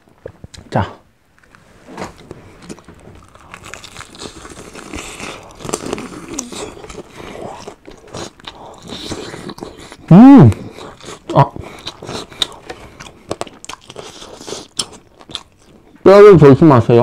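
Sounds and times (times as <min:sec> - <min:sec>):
chewing crispy fried chicken: 0:02.2 - 0:16.0.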